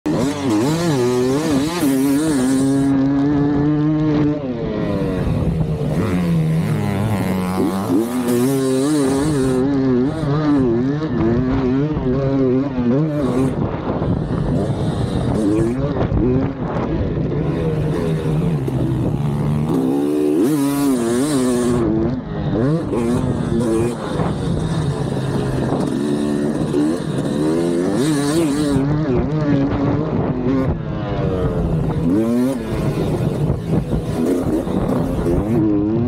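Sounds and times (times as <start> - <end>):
dirt bike engine revving: 0.1 - 36.0.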